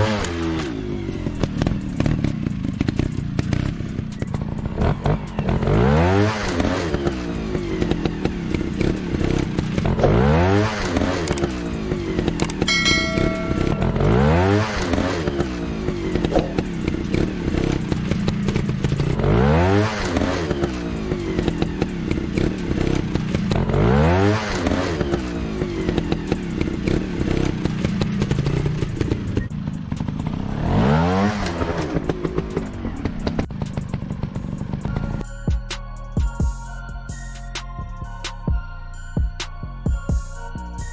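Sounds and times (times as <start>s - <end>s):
motorcycle engine revving: 0.0s - 35.3s.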